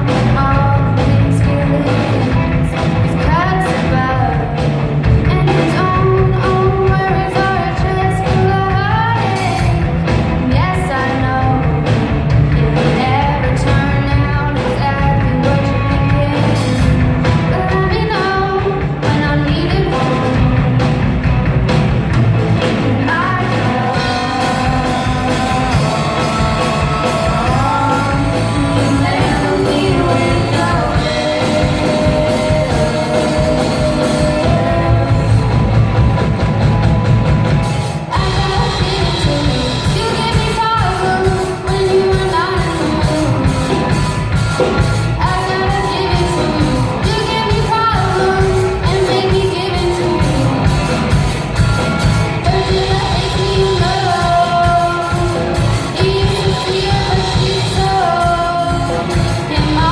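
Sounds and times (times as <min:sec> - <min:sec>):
person singing: 0:00.0 - 0:21.2, 0:22.6 - 0:36.6, 0:37.8 - 0:51.3, 0:52.0 - 0:59.9
rock band playing: 0:00.0 - 0:59.9.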